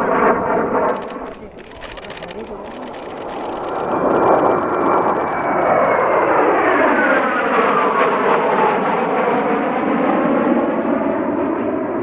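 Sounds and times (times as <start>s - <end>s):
jets flying past overhead: 0.0s - 12.0s.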